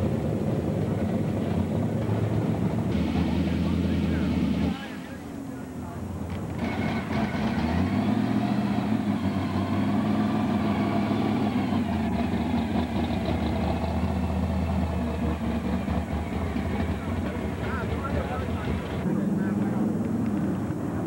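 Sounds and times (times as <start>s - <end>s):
car engine idling: 0.0s - 7.7s, 10.6s - 21.0s.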